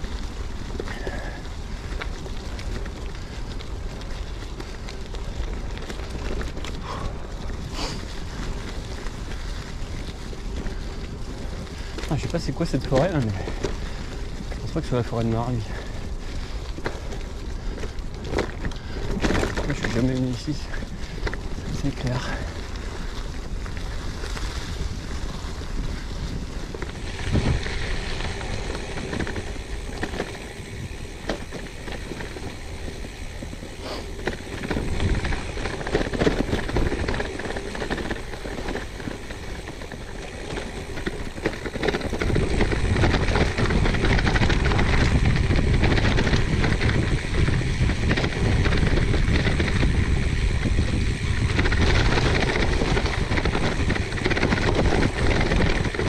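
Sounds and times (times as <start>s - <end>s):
bike tyres on trail: 0.0s - 56.0s
wind rumbling on microphone: 0.0s - 56.0s.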